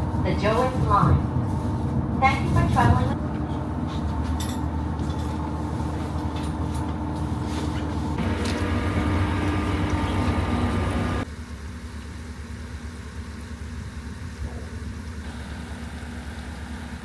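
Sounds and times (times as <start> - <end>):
diesel railcar engine drone: 0.0 - 17.0.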